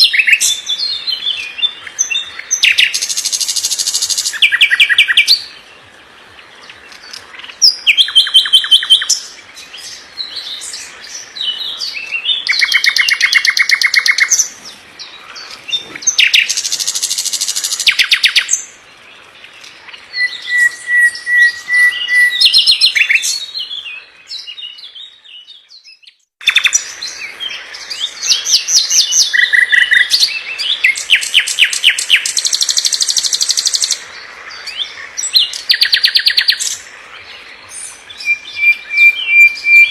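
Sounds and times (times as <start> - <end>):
songbird singing fast trills: 0.0 - 39.9.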